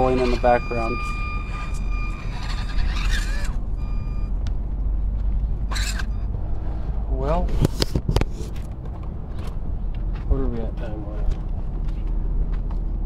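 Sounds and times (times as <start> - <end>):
low rumble: 1.0 - 13.0.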